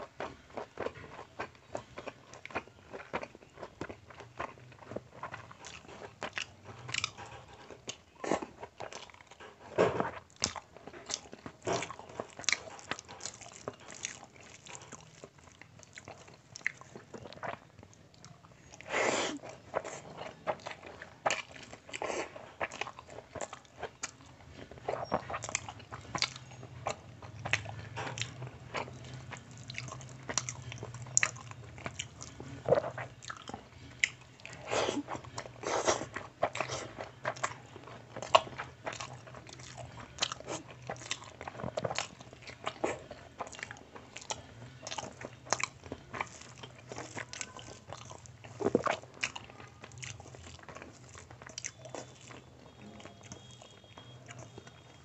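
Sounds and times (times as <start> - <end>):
wet chewing and mouth smacks: 0.0 - 55.0.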